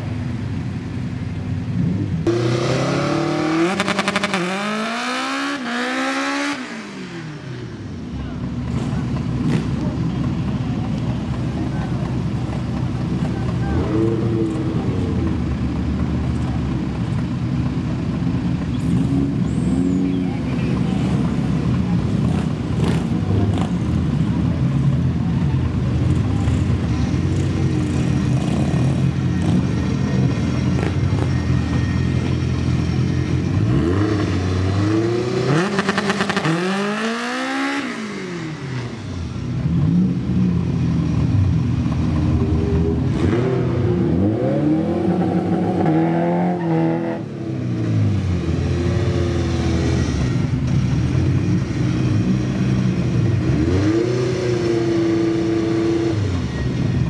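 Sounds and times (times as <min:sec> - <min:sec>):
car engines idling and revving: 0:00.0 - 0:57.0.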